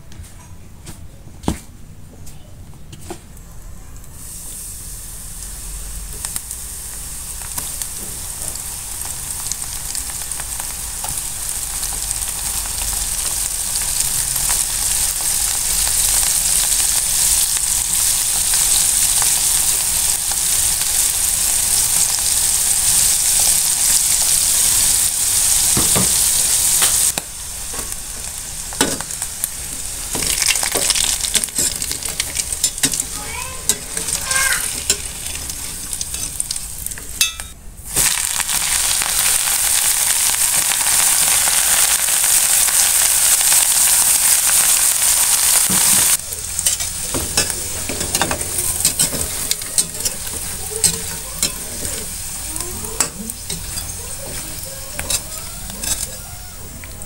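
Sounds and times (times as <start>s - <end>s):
food deep-frying in oil: 4.1s - 57.0s.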